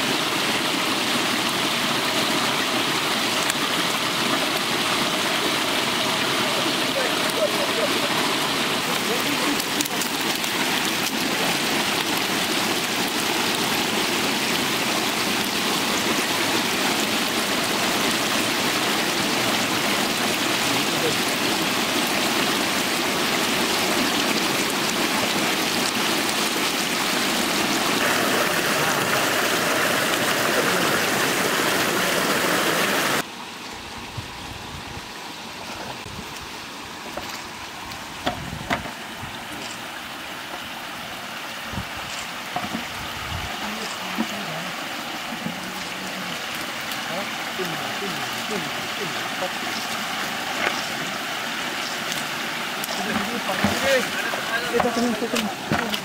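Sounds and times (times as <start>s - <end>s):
water gushing and splashing: 0.0s - 33.3s, 35.4s - 56.0s
quiet flowing water: 0.0s - 56.0s.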